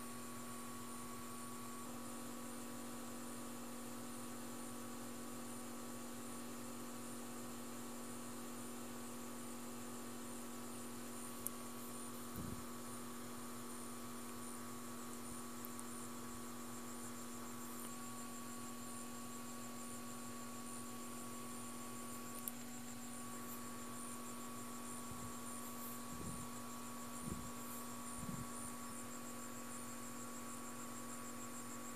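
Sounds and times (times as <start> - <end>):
electrical hum: 0.0 - 31.9
faint hiss: 0.0 - 31.9.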